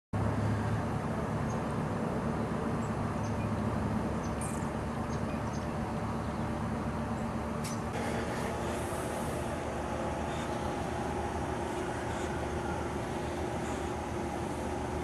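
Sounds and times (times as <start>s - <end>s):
distant traffic rumble: 0.2s - 15.0s.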